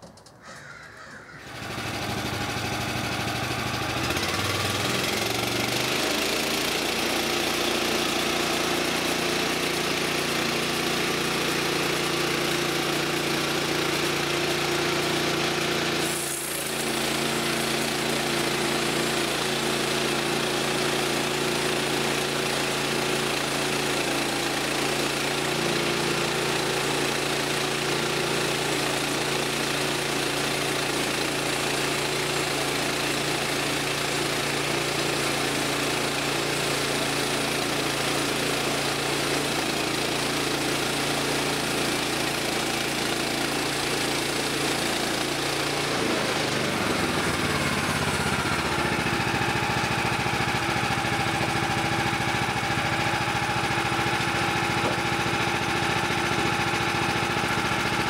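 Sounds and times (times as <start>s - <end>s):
bandsaw mill gas engine running: 0.0s - 58.0s.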